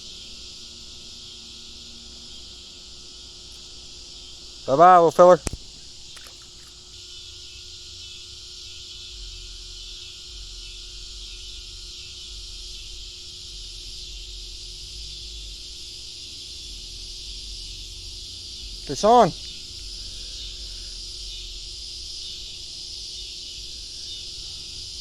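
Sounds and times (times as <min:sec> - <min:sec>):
insect chorus buzzing: 0:00.0 - 0:25.0.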